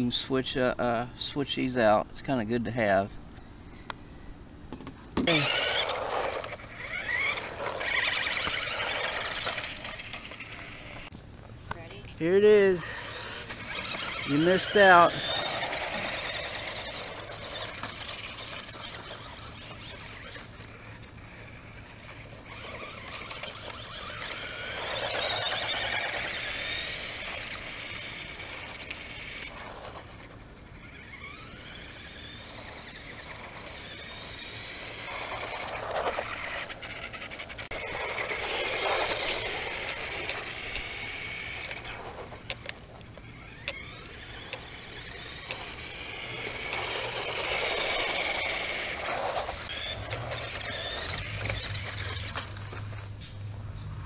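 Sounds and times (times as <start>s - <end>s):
toy car electric motor whining: 5.2s - 11.1s, 11.8s - 53.1s.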